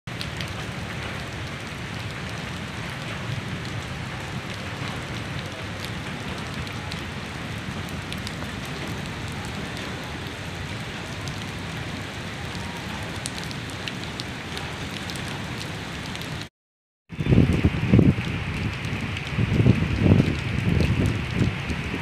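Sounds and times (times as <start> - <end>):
heavy rain on standing water: 0.1 - 16.5, 17.1 - 22.0.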